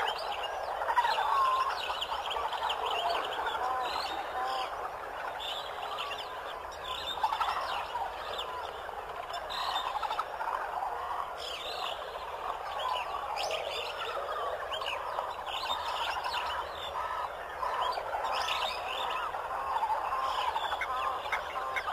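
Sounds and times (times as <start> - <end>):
chirps and gobbling calls: 0.0 - 21.9.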